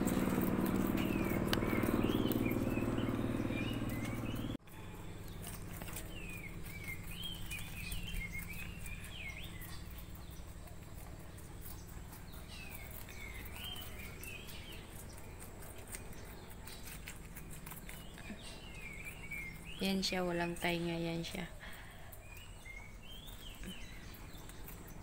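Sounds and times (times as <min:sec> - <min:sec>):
songbird twittering: 0:00.0 - 0:10.5, 0:11.7 - 0:15.2, 0:16.0 - 0:25.0
low steady hum: 0:00.0 - 0:25.0
rabbits chewing leaves: 0:00.0 - 0:25.0.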